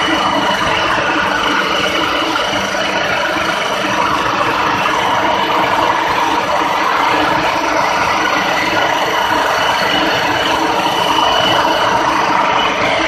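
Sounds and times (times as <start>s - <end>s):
pulping machine churning: 0.0s - 13.0s.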